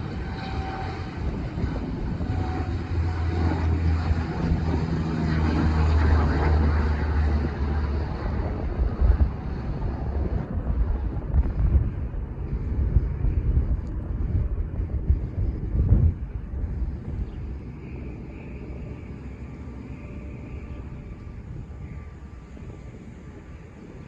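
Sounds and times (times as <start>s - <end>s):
airplane engines droning: 0.0s - 24.0s
wind gusts on microphone: 0.0s - 24.0s.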